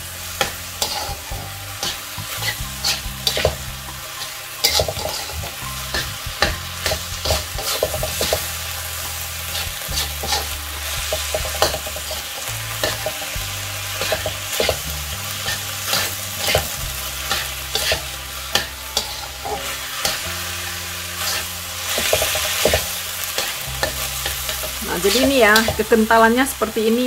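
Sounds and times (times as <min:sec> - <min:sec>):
meat sizzling in a wok: 0:00.0 - 0:27.0
spatula scraping pan: 0:00.4 - 0:20.4, 0:21.1 - 0:26.1.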